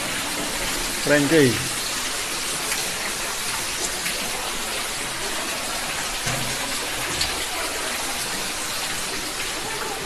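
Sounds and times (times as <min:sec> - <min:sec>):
waterfall rushing into pool: 0:00.0 - 0:10.0.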